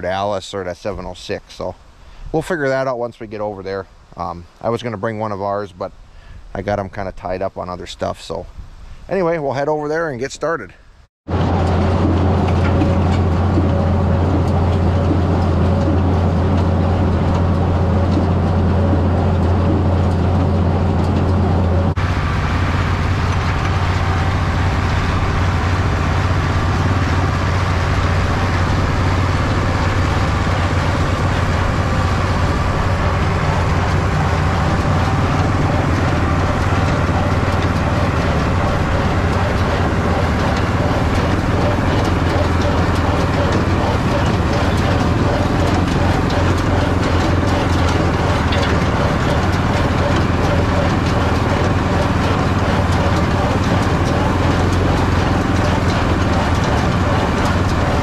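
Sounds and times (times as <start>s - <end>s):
baler baling hay: 11.3s - 58.0s
tractor engine running: 11.3s - 58.0s.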